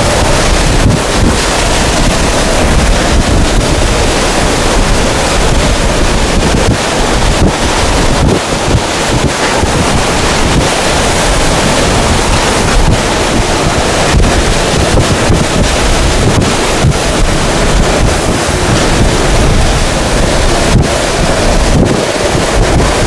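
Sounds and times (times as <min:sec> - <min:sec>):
wind buffeting microphone: 0:00.0 - 0:23.0
wind roaring: 0:00.0 - 0:23.0.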